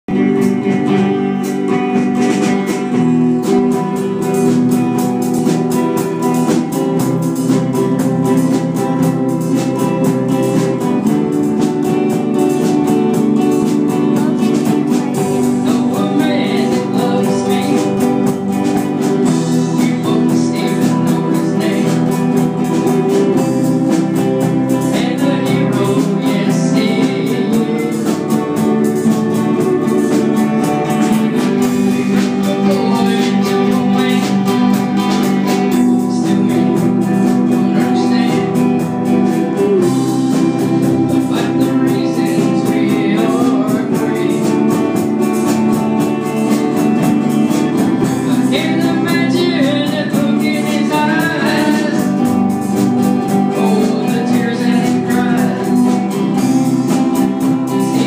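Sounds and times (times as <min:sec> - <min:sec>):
electric guitar strummed: 0:00.0 - 0:58.0
keyboard accompaniment: 0:00.0 - 0:58.0.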